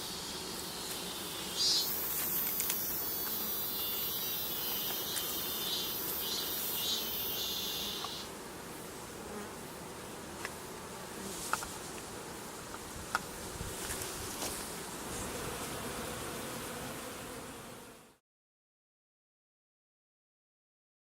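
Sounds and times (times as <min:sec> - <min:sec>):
bees buzzing: 0:00.0 - 0:18.2.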